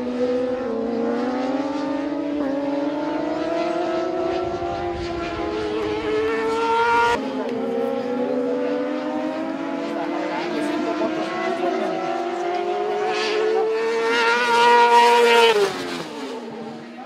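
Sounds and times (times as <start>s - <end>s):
motorcycle engines running hard: 0.0s - 17.0s.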